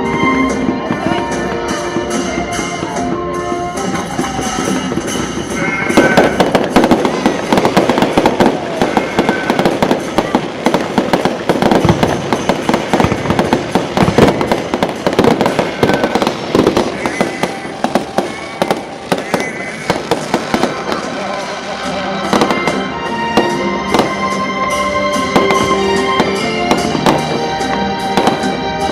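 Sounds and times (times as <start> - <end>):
fireworks bangs and crackling: 0.0 - 28.9.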